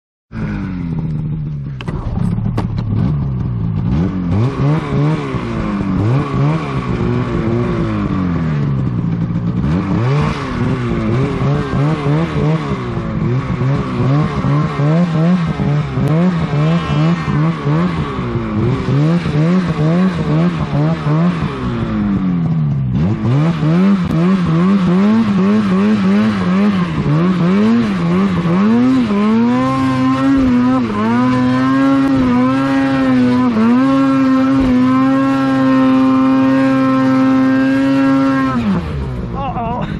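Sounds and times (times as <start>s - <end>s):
snowmobile engine revving: 0.4s - 39.9s.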